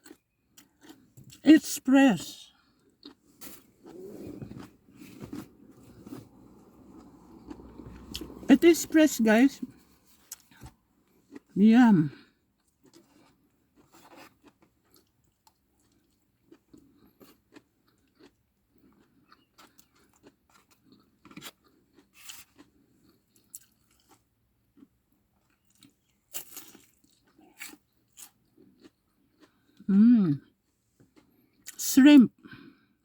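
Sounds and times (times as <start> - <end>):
person chewing food: 0.0 - 1.4, 2.5 - 8.5, 9.6 - 11.5, 12.2 - 29.9, 30.5 - 31.8.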